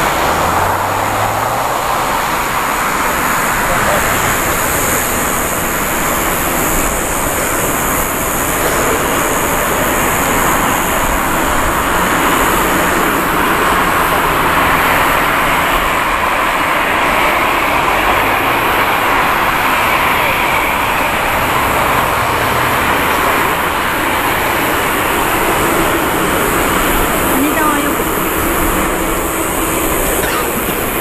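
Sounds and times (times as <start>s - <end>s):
jet engines at takeoff power: 0.0s - 31.0s.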